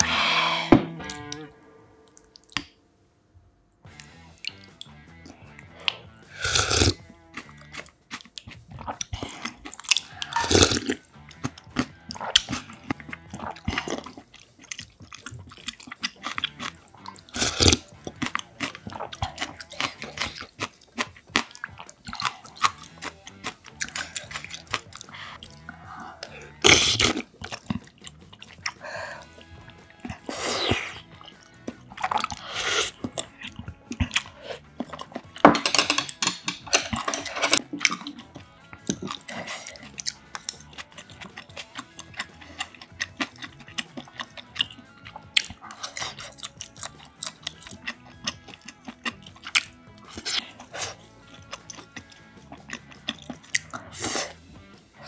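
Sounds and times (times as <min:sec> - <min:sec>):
slurping broth: 0:00.0 - 0:01.0, 0:05.6 - 0:55.0
background music: 0:00.0 - 0:55.0
chewing: 0:03.9 - 0:55.0.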